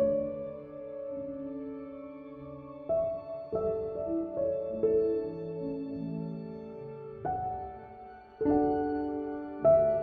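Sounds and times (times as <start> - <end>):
soft music of held chords: 0.0 - 10.0.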